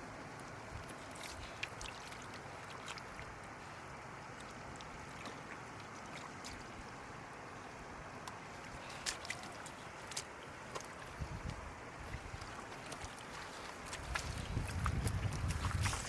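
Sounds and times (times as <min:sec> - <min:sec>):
floodwater sloshing and trickling: 0:00.0 - 0:16.0
small splashes and clicks: 0:00.3 - 0:16.0.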